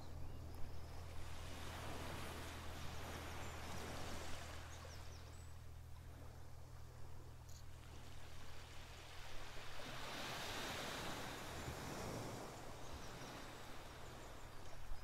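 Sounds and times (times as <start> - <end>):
constant low hum: 0.0 - 15.0
gentle surf: 0.0 - 15.0.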